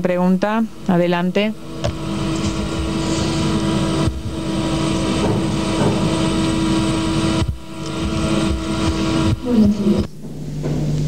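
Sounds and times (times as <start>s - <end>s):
electrical hum and rumble: 0.0s - 11.0s.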